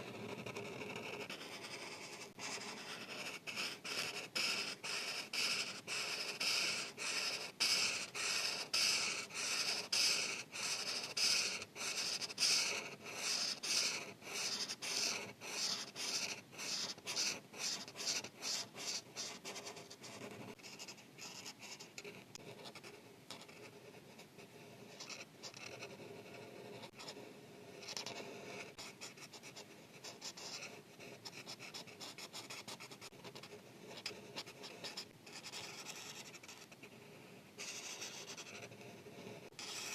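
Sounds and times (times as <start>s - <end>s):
marker scratching on paper: 0.0s - 39.9s.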